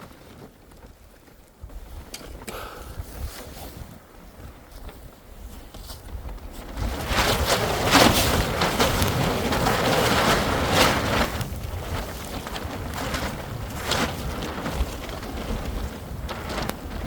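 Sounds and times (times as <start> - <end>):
blizzard wind gusting: 1.6 - 17.0.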